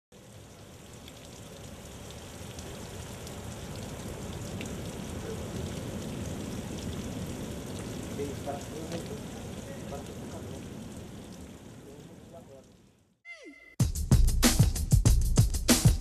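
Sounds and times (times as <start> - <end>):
steady rain falling: 0.1 - 13.1
water dripping off roof: 0.2 - 13.0.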